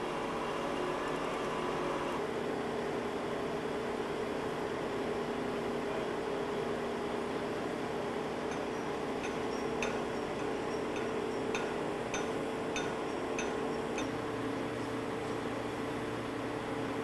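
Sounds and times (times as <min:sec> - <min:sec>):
truck crane engine hum: 0:00.0 - 0:17.0.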